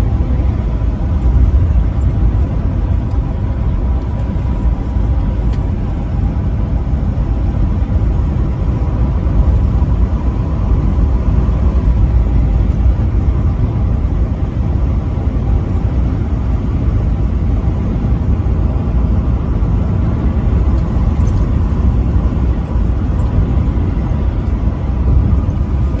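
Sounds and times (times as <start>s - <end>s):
vehicle road and engine rumble: 0.0s - 26.0s.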